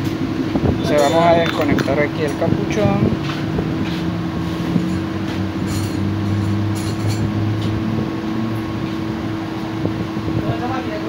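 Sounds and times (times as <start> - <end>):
low engine drone: 0.0 - 11.0
machine hum: 0.0 - 11.0.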